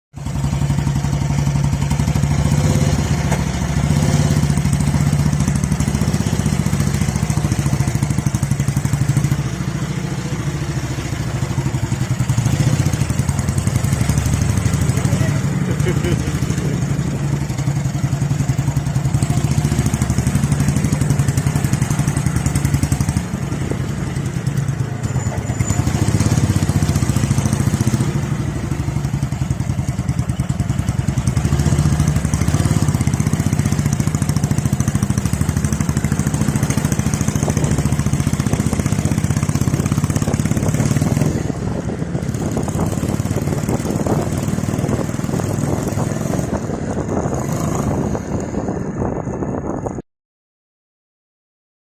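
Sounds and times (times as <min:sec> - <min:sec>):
motorcycle exhaust running: 0:00.2 - 0:50.0.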